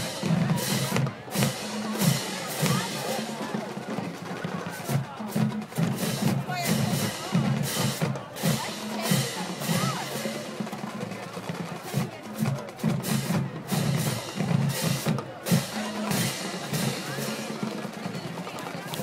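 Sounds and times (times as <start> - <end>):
snare drums playing: 0.0 - 19.0.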